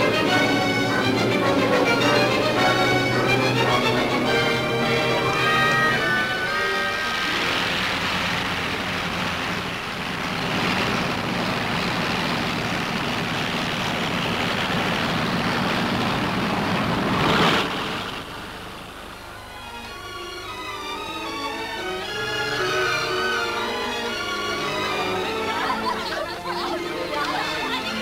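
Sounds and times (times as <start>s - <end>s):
propeller airliner engine drone: 0.0s - 28.0s.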